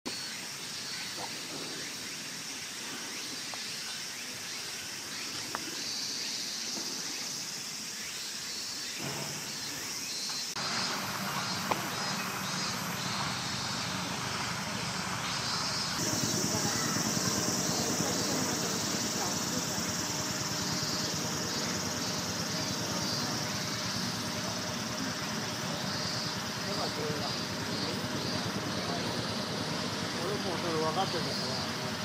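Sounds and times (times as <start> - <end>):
outdoor background noise: 0.1 - 32.0.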